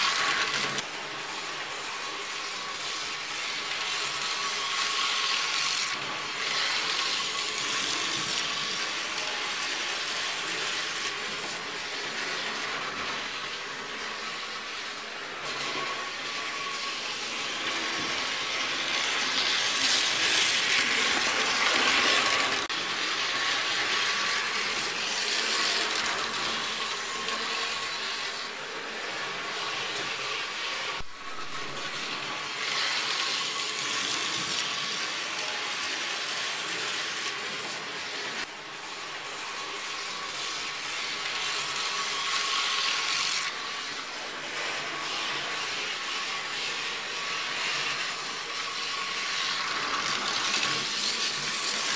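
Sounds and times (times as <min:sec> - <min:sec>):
model train motor whirring: 0:00.0 - 0:51.9.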